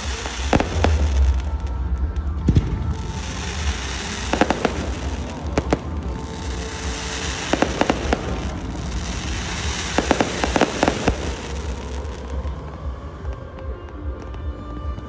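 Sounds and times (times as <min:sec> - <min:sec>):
low rumble: 0:00.0 - 0:13.2
fireworks bursting: 0:00.0 - 0:15.0.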